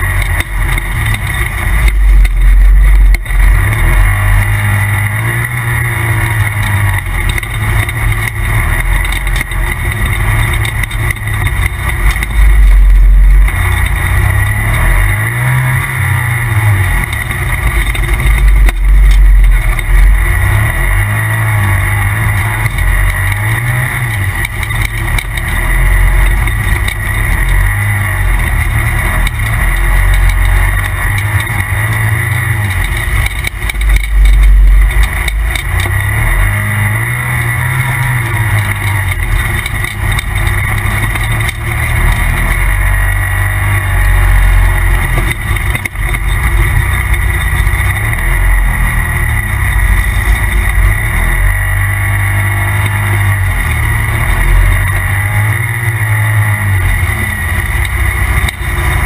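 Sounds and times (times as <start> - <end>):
engine low rumble: 0.0 - 59.0
steady high whine: 0.0 - 59.0.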